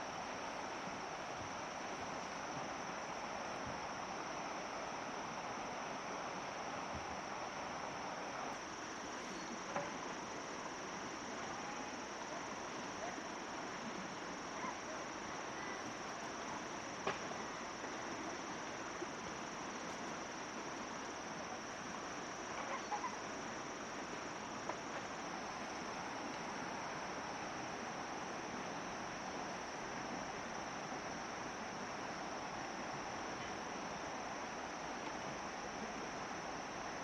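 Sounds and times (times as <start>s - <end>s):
insects droning: 0.0s - 37.0s
steady rushing hiss: 0.0s - 37.0s.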